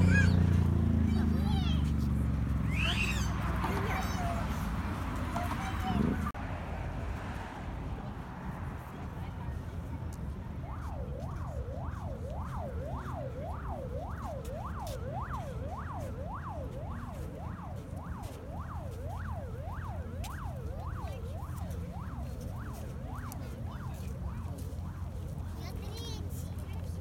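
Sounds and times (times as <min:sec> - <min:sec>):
siren wailing: 0:00.0 - 0:01.8, 0:02.5 - 0:06.4, 0:10.1 - 0:26.8.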